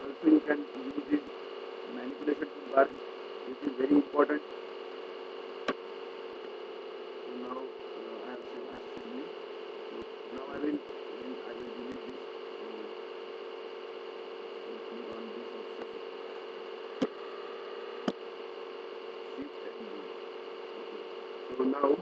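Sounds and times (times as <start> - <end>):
microphone hiss and hum: 0.0 - 22.0.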